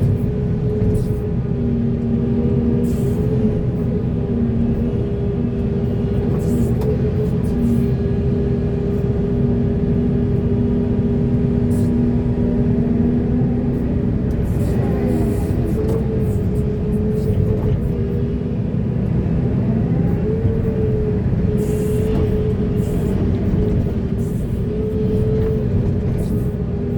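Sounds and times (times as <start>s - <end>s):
excavator diesel engine: 0.0s - 26.9s.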